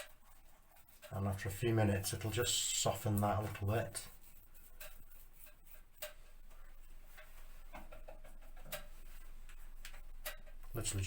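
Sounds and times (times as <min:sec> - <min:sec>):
brush rubbing on wallpaper: 0:00.0 - 0:11.0.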